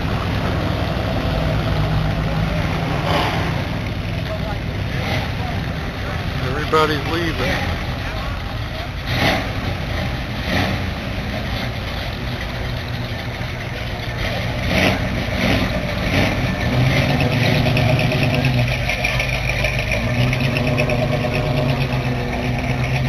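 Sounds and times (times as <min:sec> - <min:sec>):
car engines driving past: 0:00.0 - 0:23.0.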